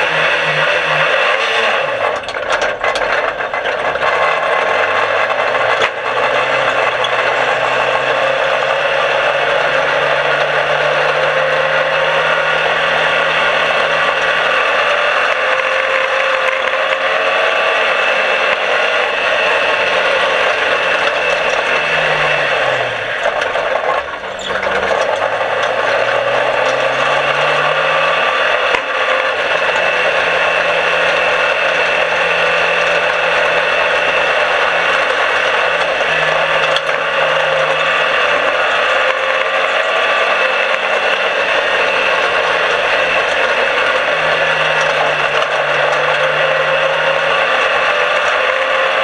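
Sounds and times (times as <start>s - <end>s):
loud rattle and track noise: 0.0s - 49.0s
race car engine: 0.0s - 49.0s.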